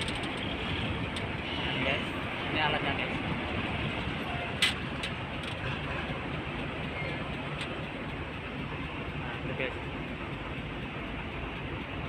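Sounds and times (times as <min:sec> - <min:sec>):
idling trucks rumbling: 0:00.0 - 0:12.0.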